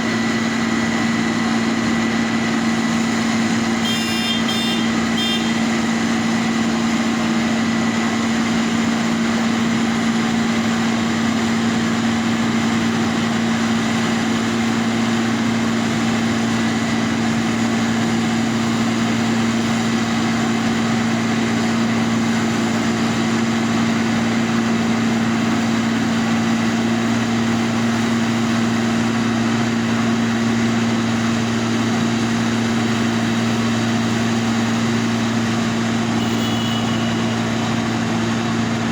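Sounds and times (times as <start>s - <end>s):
large engine running steadily: 0.0s - 38.9s.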